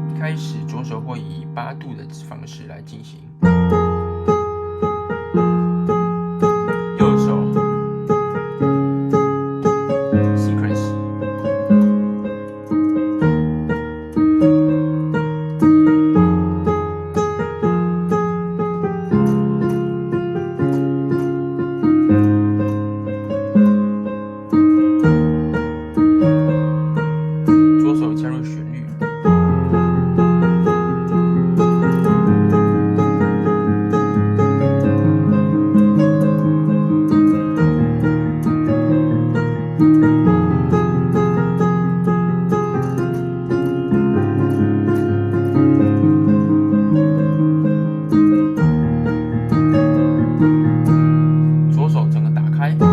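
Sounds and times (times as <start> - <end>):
piano playing: 0.0 - 52.9.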